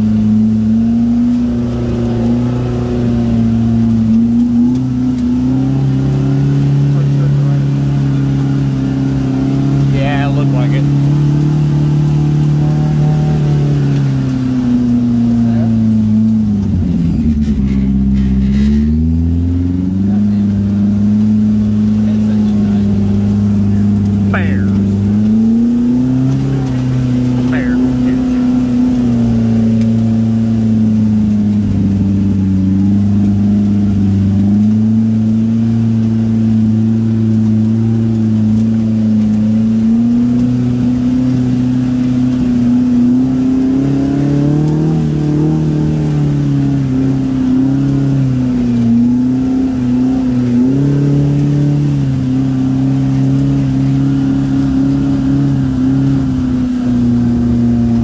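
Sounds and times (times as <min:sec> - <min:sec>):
vehicle engine running at low speed: 0:00.0 - 0:58.0.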